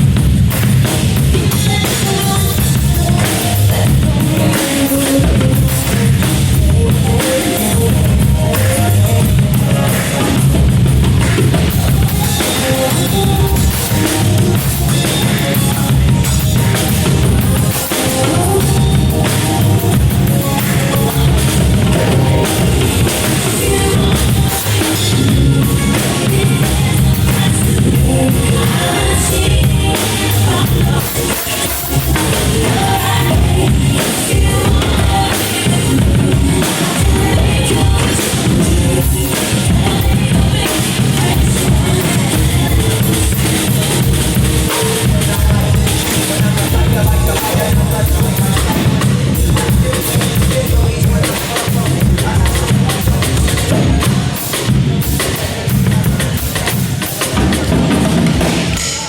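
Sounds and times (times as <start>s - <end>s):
bass drum: 0.0s - 56.7s
drum kit playing: 0.0s - 59.0s
rock music: 0.0s - 59.0s.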